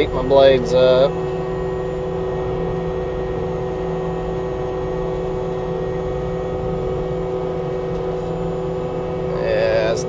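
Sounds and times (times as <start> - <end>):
brush mower droning: 0.0 - 10.0.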